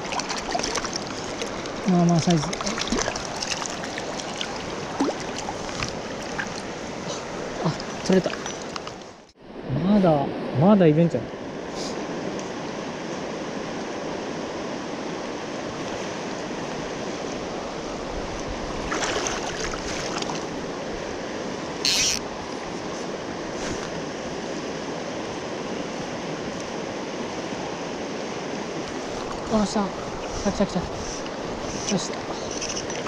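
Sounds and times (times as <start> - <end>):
stream rushing over rocks: 0.0 - 9.2, 14.8 - 33.0.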